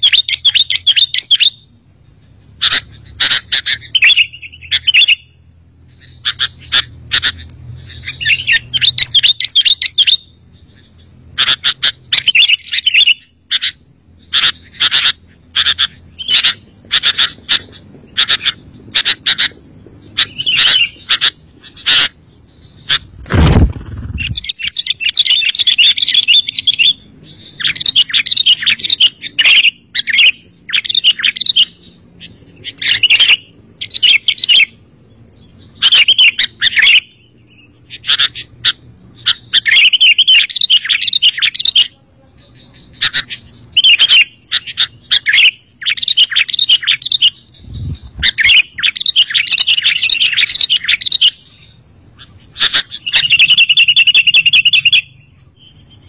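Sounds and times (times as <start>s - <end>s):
bird chirping and warbling: 0.0s - 56.0s.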